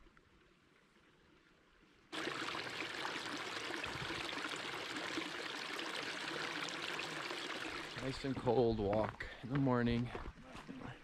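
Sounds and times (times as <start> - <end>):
creek water over stones: 0.0 - 11.0.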